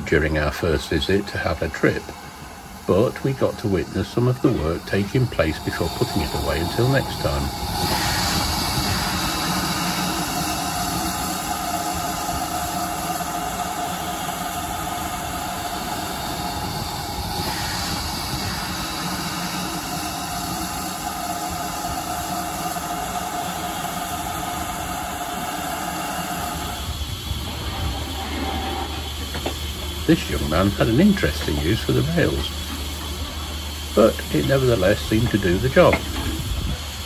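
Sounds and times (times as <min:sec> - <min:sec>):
steam hissing: 0:00.0 - 0:37.0.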